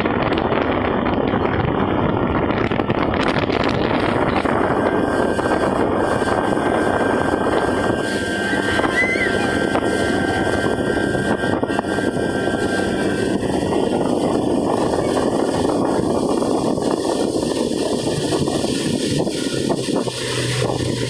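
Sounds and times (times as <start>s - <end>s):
rush of water noise: 0.0s - 21.0s
speedboat engine running: 0.0s - 21.0s.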